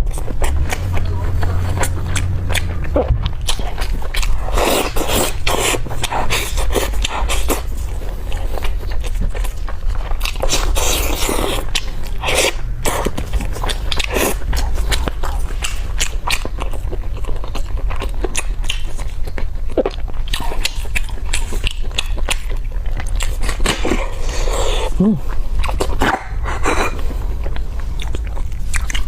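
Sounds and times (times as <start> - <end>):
person chewing meat off bone: 0.0 - 29.0.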